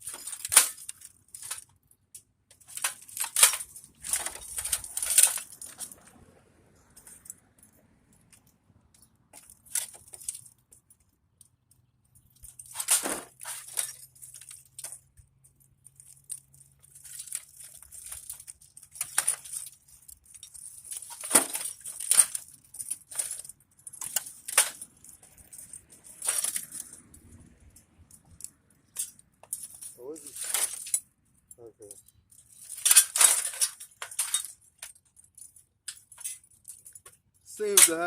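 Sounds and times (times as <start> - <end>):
metal and plastic parts rattling: 0.0 - 6.2, 6.8 - 38.0.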